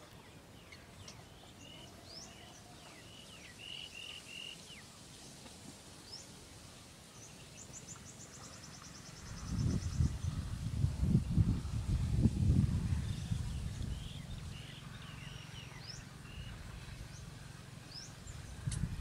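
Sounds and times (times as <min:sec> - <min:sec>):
low background hiss: 0:00.0 - 0:19.0
small birds chirping: 0:00.0 - 0:19.0.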